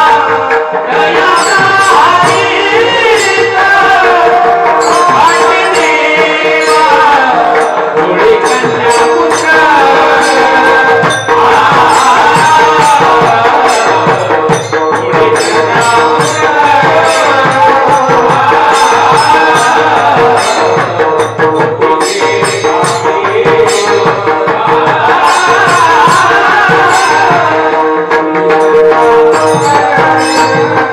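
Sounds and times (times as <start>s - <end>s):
devotional singing: 0.0s - 30.9s
drum strokes: 0.0s - 30.9s.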